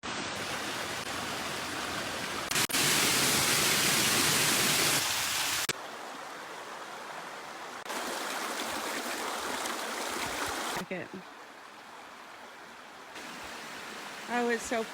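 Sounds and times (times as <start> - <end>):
brook and waterfall rushing: 0.0 - 14.9.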